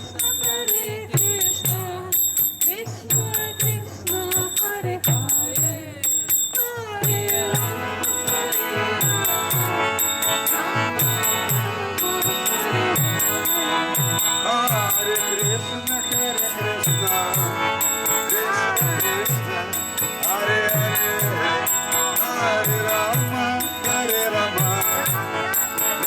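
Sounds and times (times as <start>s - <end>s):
hand cymbals ringing: 0.0s - 26.0s.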